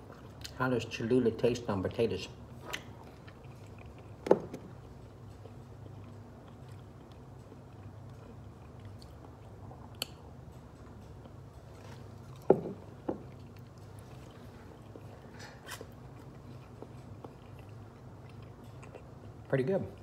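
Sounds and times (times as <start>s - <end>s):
low steady hum: 0.0s - 20.0s
quiet chewing: 2.5s - 20.0s.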